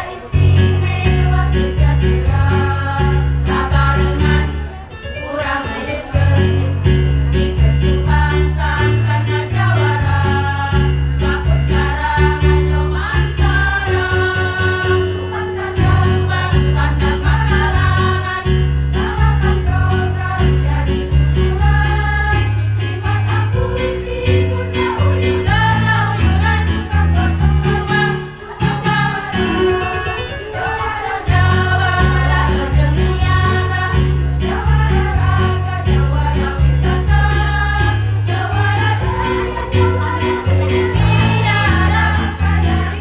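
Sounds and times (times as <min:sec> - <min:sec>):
women's choir singing: 0:00.0 - 0:43.0
accompaniment with bass line: 0:00.4 - 0:04.7, 0:06.2 - 0:30.3, 0:31.0 - 0:43.0.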